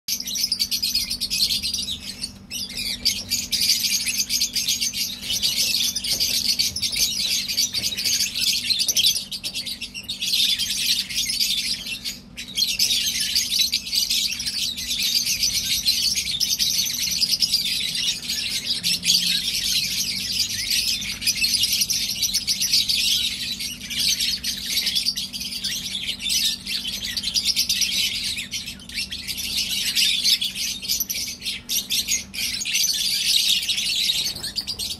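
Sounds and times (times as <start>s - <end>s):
birds chirping and chattering: 0.1s - 34.9s.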